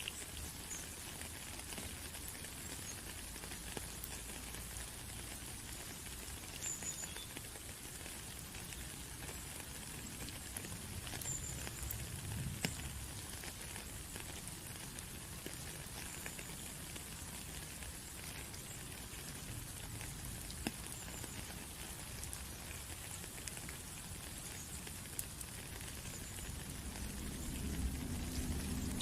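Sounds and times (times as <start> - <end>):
raindrops ticking: 0.0 - 29.0
steady rain hissing: 0.0 - 29.0.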